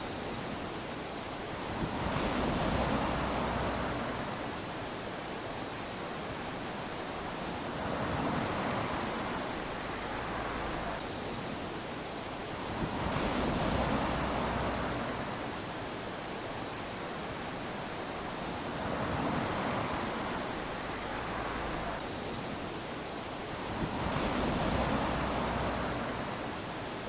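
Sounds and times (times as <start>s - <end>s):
small waves lapping on shore: 0.0s - 27.0s.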